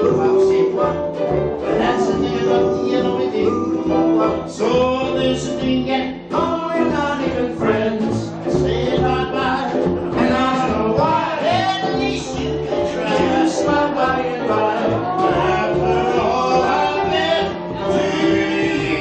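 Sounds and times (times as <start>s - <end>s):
men singing: 0.0s - 19.0s
plucked upright bass: 0.0s - 19.0s
swing band playing: 0.0s - 19.0s.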